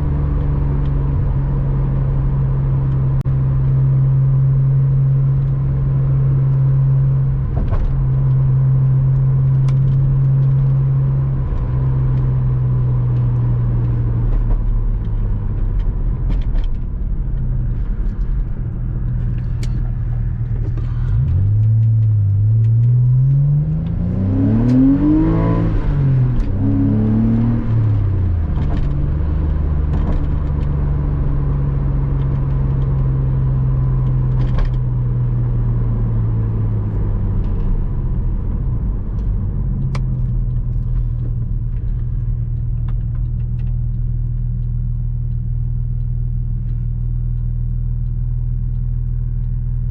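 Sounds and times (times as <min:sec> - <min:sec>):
car engine cruising and accelerating: 0:00.0 - 0:49.9.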